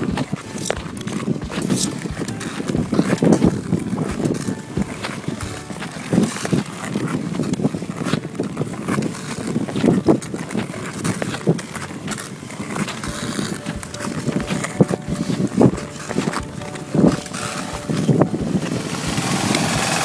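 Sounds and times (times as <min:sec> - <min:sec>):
ice skates scraping on ice: 0:00.0 - 0:20.0.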